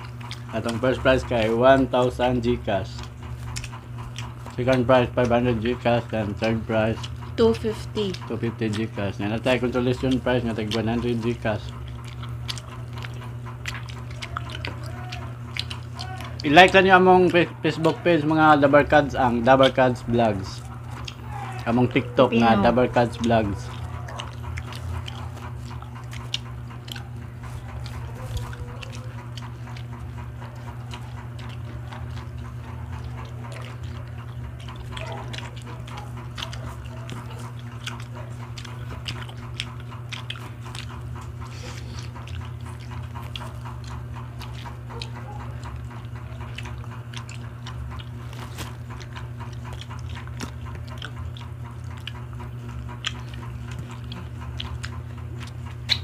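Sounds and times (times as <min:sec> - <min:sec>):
people chewing and lip smacking: 0:00.0 - 0:56.0.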